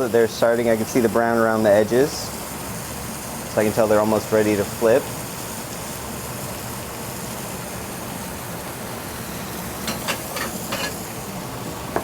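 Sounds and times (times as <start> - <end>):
scallops sizzling in hot oil: 0.0 - 12.0.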